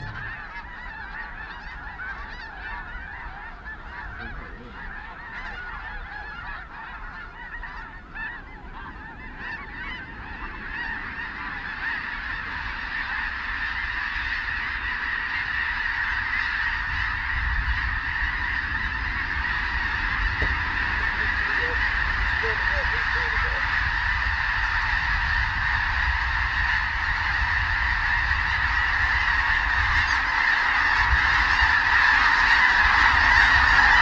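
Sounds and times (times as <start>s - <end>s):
flock of geese honking: 0.0s - 34.0s.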